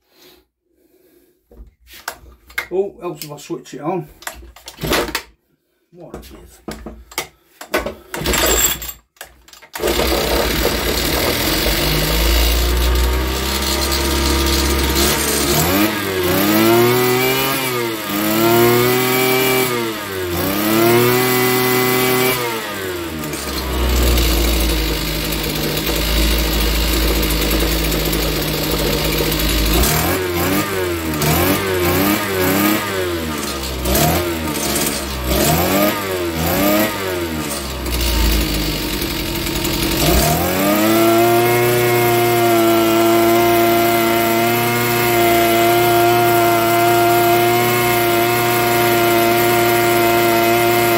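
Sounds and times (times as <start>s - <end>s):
strimmer engine starting and revving: 9.6s - 50.9s.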